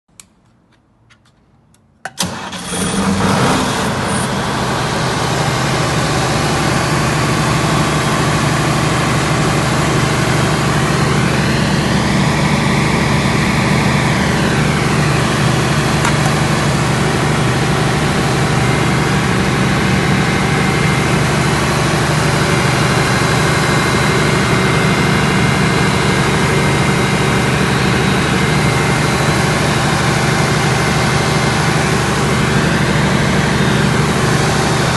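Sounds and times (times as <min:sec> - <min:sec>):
diesel generator starting and running: 0:00.1 - 0:34.9.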